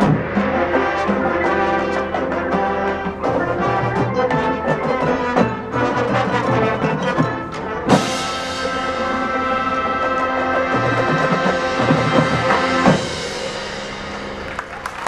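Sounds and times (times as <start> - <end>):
loud accented band hit: 0.0 - 15.0
marching band playing: 0.0 - 15.0.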